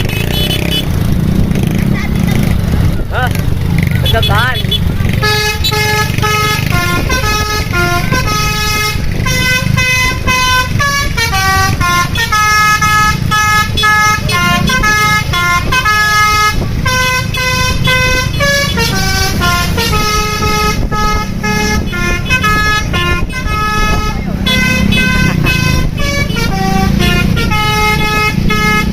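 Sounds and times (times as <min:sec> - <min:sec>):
multi-tone bus horn tune: 0:00.0 - 0:01.0, 0:04.1 - 0:28.9.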